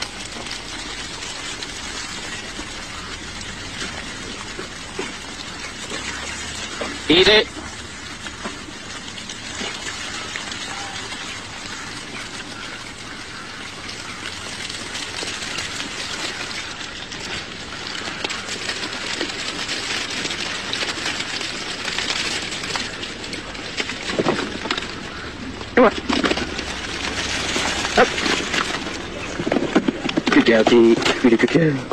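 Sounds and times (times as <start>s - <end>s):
sheep hooves rustling on mud: 0.0s - 31.9s.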